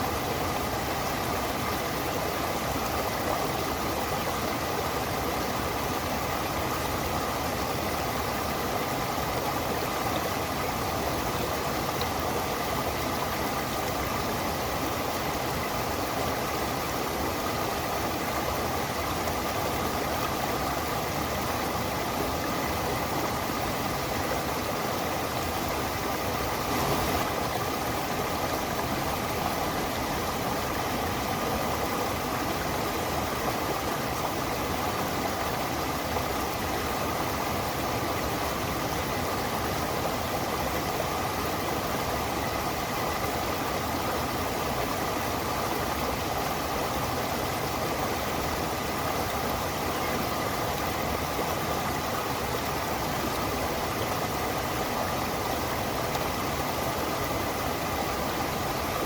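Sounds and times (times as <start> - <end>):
waterfall water rushing: 0.0 - 59.0.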